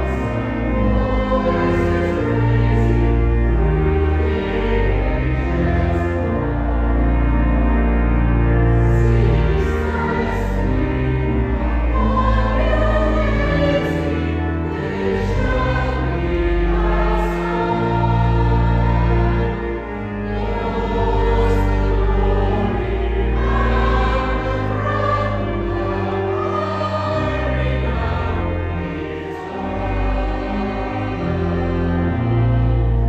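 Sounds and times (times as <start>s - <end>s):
choir singing a hymn: 0.0s - 33.0s
low held accompanying notes: 0.0s - 33.0s.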